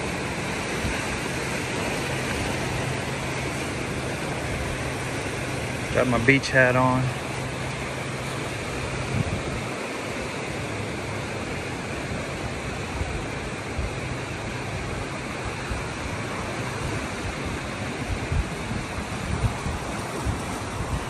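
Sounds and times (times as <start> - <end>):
ocean surf washing on beach: 0.0 - 21.0
wind buffeting microphone: 0.0 - 21.0.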